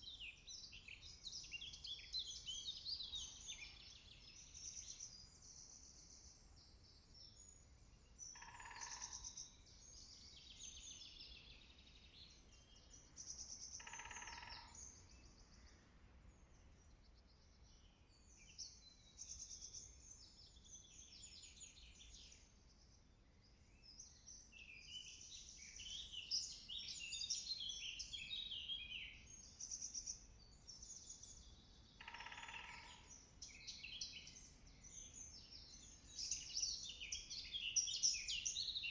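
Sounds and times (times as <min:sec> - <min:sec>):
birdsong chorus: 0:00.0 - 0:38.9.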